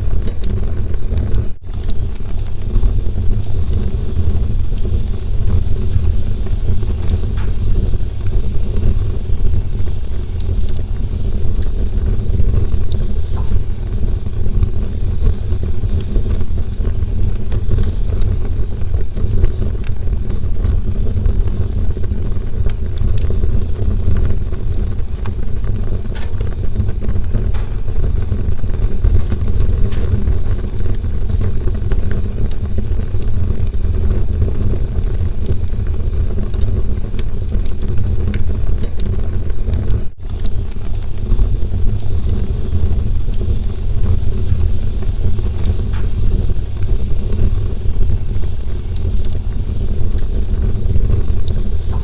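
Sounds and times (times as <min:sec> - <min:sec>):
campfire flames roaring: 0:00.0 - 0:52.0
fire crackling and popping: 0:00.0 - 0:52.0.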